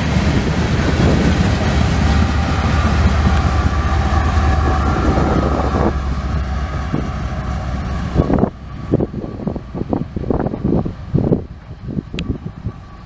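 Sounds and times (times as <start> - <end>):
diesel locomotive engine drone: 0.0 - 13.0
wheel and rail rumble: 0.0 - 13.0.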